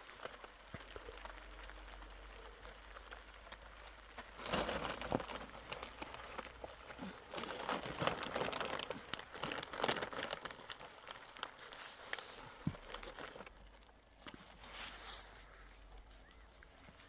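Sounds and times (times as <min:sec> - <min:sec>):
plastic sheeting crinkling: 0:00.0 - 0:17.0.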